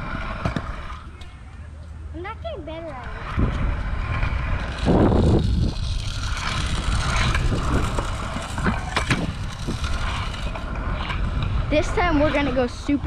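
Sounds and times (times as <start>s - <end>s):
scooter wheels rolling on concrete: 0.0s - 13.0s.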